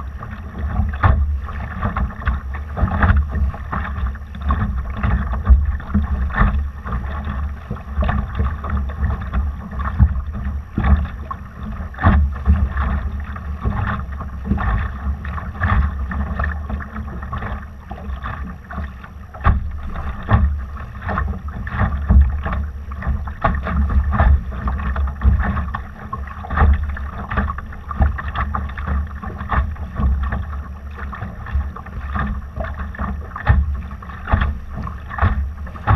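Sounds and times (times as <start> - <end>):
water splashing against boat hull: 0.0 - 35.9.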